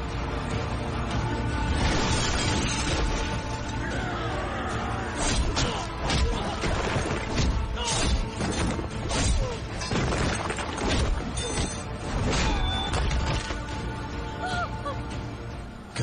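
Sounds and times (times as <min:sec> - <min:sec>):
action film music: 0:00.0 - 0:16.0.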